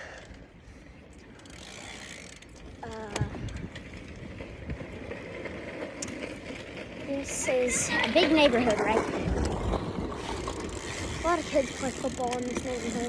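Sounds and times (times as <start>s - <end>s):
road noise: 0.0s - 13.0s
bicycle freewheel ticking: 1.1s - 13.0s.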